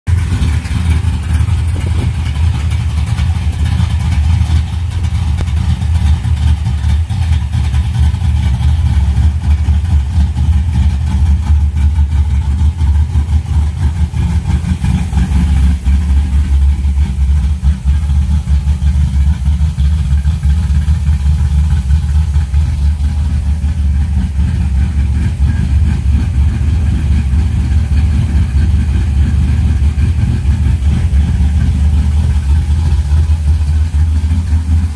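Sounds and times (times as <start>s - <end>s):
car engine idling loudly: 0.0s - 34.9s.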